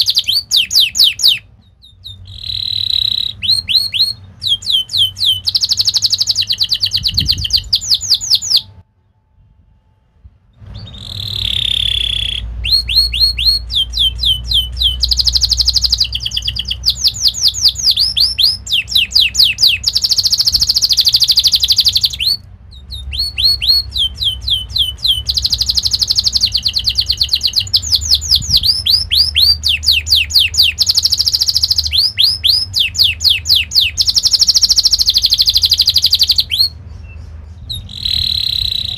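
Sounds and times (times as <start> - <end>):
canary singing trills: 0.0 - 8.8, 10.6 - 38.9.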